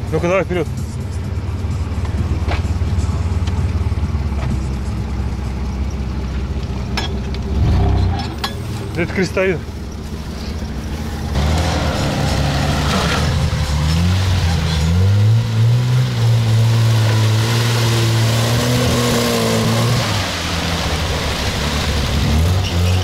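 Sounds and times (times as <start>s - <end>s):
car engine under load: 0.0s - 23.0s.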